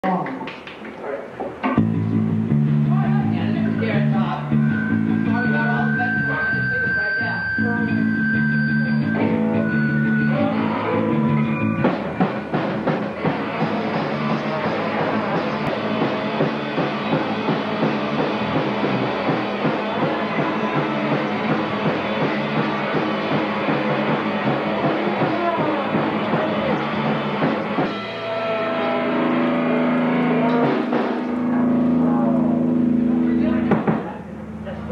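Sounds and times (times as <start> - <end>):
fast busy drumming: 1.6 - 34.2
guitar chords: 1.7 - 34.9.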